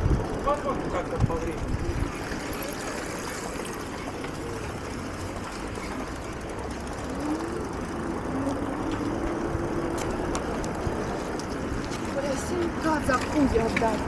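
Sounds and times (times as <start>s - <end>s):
bike riding rumble: 0.0s - 14.0s
town traffic: 0.0s - 14.0s.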